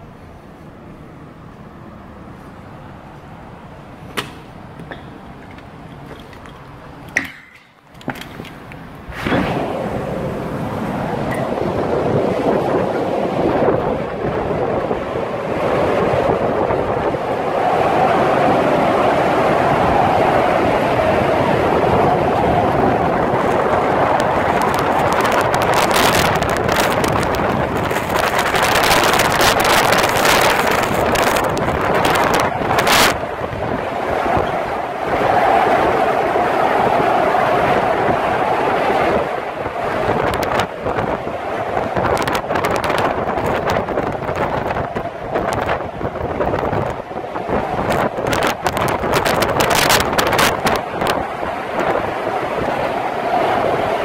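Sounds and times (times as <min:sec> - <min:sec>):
strong wind buffeting microphone: 0:00.0 - 0:54.0.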